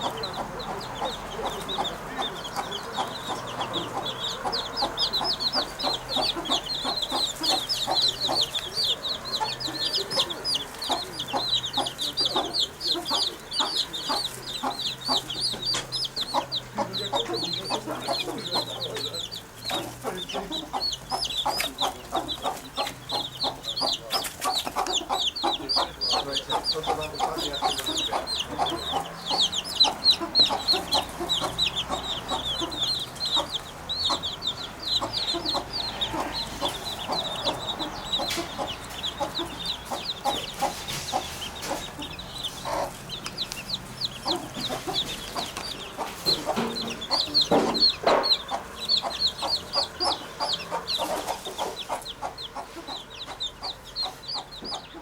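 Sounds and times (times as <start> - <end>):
birds chattering: 0.0 - 55.0.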